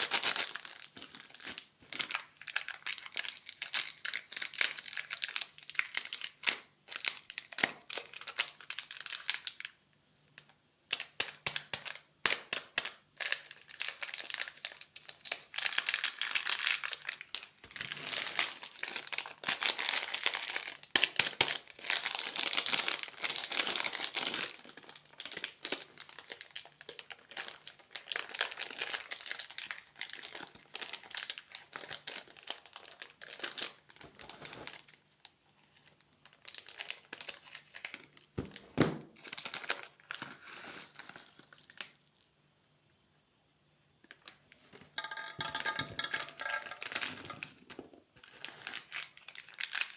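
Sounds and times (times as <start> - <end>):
candy wrappers crinkling: 0.0 - 9.8, 10.4 - 42.4, 44.0 - 49.9.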